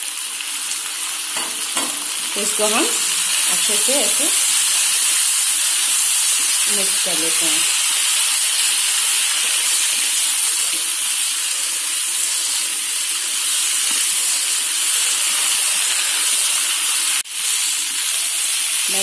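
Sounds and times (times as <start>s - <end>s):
potatoes sizzling in oil: 0.0s - 19.0s.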